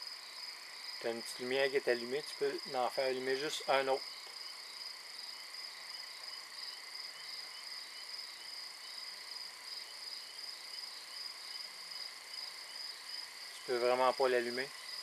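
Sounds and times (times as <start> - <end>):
crickets trilling: 0.0 - 15.0
lower insect chirp: 0.0 - 15.0.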